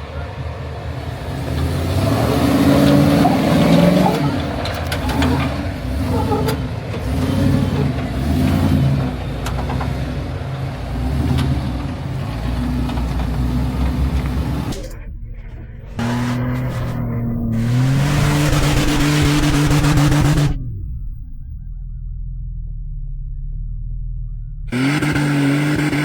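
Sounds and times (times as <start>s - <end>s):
engine revving in surges: 0.0s - 26.0s.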